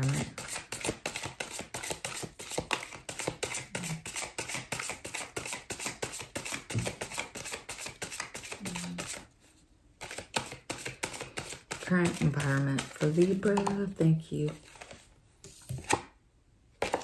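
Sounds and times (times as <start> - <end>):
cards being shuffled: 0.0 - 9.3, 10.0 - 16.2, 16.8 - 17.0.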